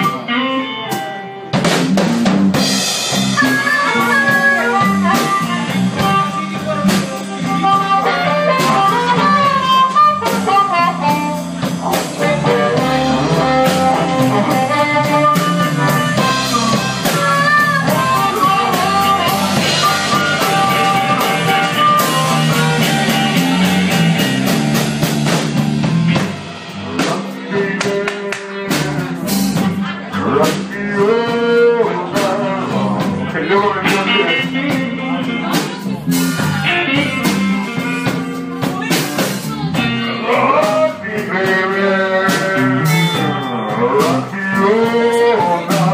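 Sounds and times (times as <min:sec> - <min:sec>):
drum kit: 0:00.0 - 0:45.9
electric guitar lead: 0:00.0 - 0:45.9.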